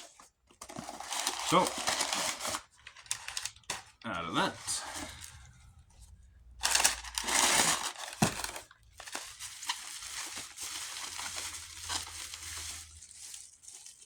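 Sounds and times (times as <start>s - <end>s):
packaging crinkling: 0.0s - 4.0s, 6.6s - 14.0s.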